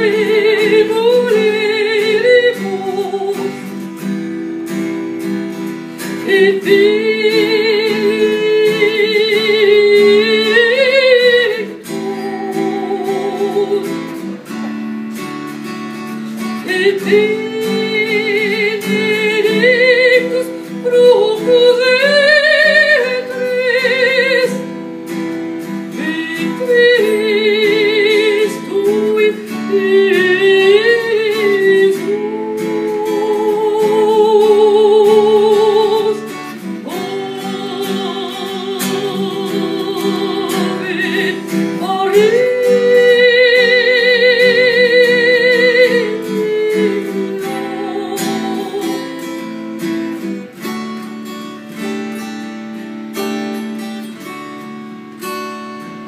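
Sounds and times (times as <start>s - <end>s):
woman singing with vibrato: 0.0s - 52.0s
strummed acoustic guitar: 0.0s - 56.0s.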